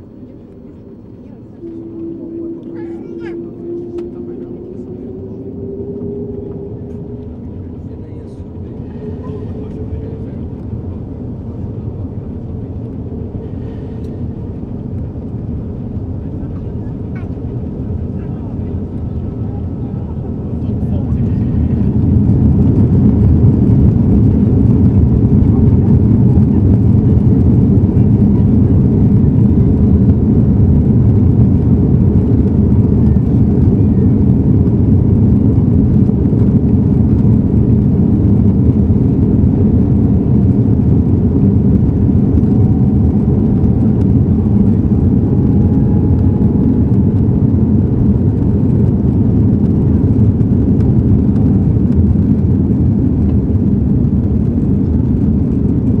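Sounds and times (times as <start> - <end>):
jet engines roaring inside cabin: 0.0 - 56.0.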